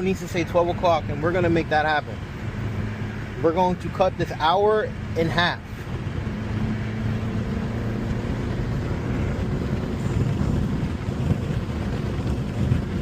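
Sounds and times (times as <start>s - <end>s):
car interior engine and road drone: 0.0s - 13.0s.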